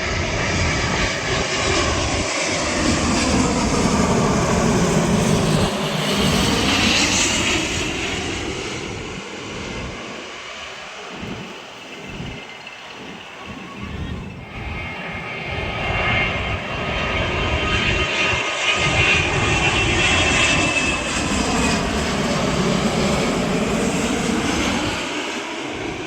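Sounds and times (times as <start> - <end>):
jet airliner engines passing overhead: 0.0 - 26.0.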